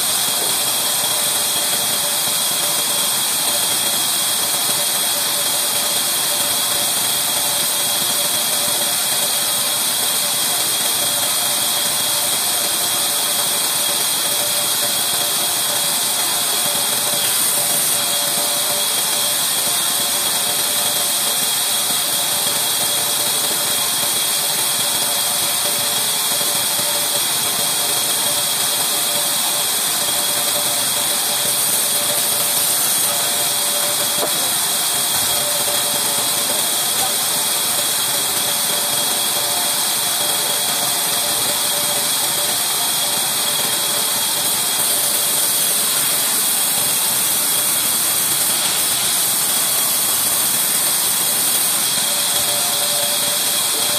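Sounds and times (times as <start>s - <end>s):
band saw cutting wood: 0.0s - 53.9s.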